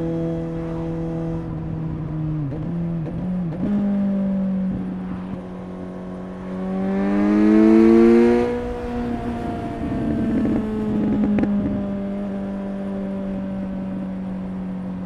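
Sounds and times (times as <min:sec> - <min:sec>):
motorcycle engine and exhaust: 0:00.0 - 0:15.0.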